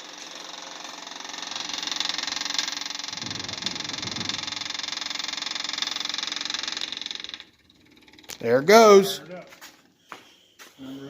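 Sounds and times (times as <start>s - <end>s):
fuel pump buzzing: 0.0s - 10.2s.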